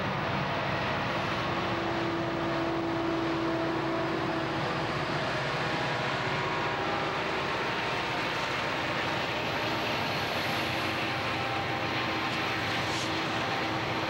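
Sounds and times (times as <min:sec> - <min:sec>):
diesel locomotive engines droning: 0:00.0 - 0:14.0
train wheels rumbling on rails: 0:00.0 - 0:14.0.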